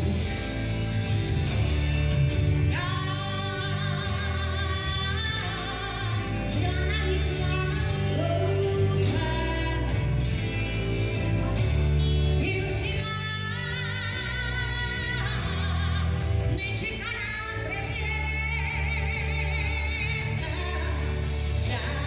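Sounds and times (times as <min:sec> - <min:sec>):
pop-rock band music: 0:00.0 - 0:22.0
pulsing bass line: 0:00.0 - 0:22.0.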